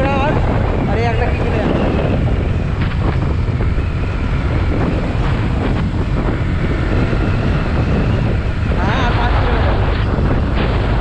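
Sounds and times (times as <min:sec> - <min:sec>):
motorcycle engine and tyres droning: 0:00.0 - 0:11.0
wind rushing over microphone: 0:00.0 - 0:11.0.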